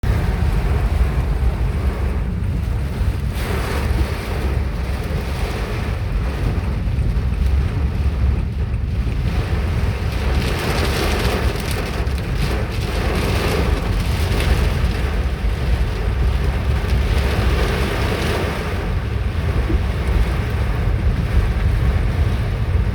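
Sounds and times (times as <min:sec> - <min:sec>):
wind buffeting microphone: 0:00.0 - 0:22.9
rain and hail hiss: 0:00.1 - 0:22.9.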